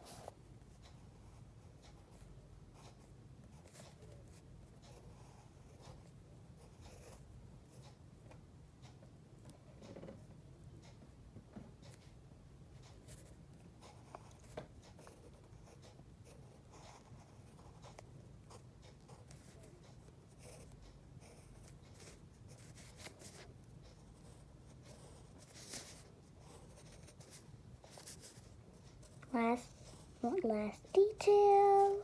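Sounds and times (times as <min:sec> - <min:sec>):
pen scratching on paper: 0:00.0 - 0:08.0, 0:12.9 - 0:30.6.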